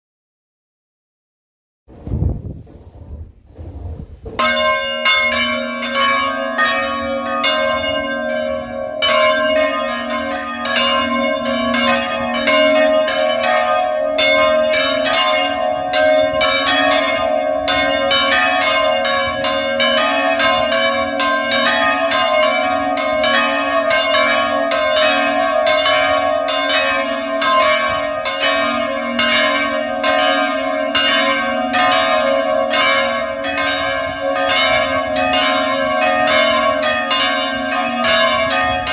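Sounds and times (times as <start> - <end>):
church bells ringing rapid peal: 4.4 - 38.9.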